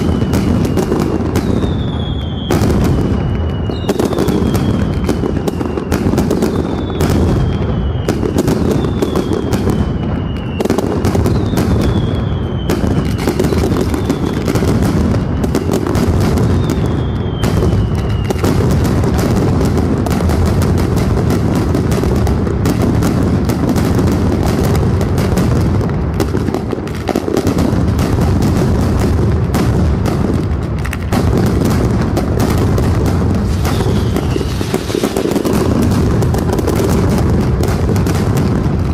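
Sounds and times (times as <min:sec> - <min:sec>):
firecrackers banging rapidly: 0:00.0 - 0:38.9
whistling fireworks: 0:00.0 - 0:38.9.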